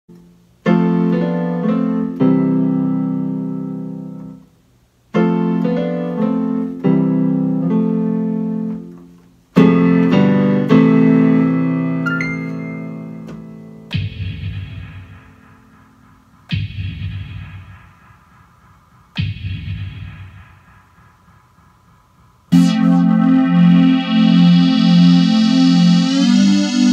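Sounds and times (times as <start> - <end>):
electronic piano chords: 0.1 - 4.5, 5.1 - 26.9.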